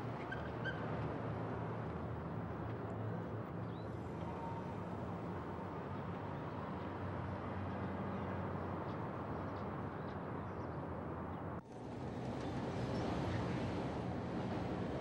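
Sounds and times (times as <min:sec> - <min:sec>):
vehicle engine and traffic: 0:00.0 - 0:15.0.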